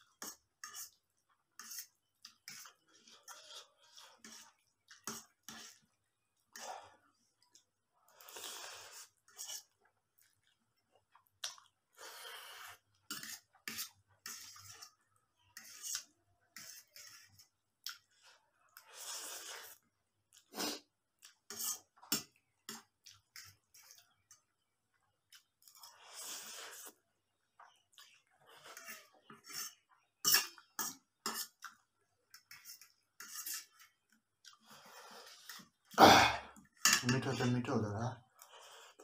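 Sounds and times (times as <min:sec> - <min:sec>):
noodles slurped and chewed: 0:00.0 - 0:36.8, 0:37.4 - 0:39.0.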